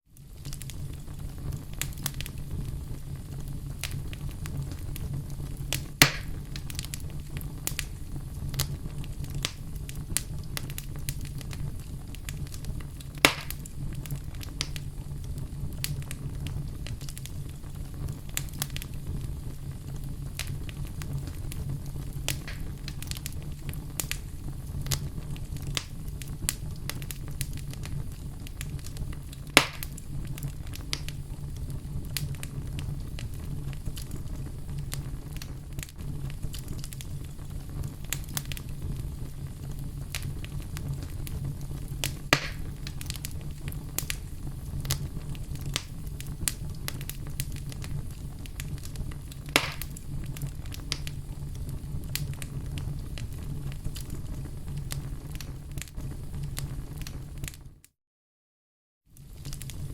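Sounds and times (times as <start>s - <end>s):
wood fire crackling: 0.1s - 57.8s, 59.1s - 59.9s
loud fire pops: 0.2s - 57.7s, 59.2s - 59.9s.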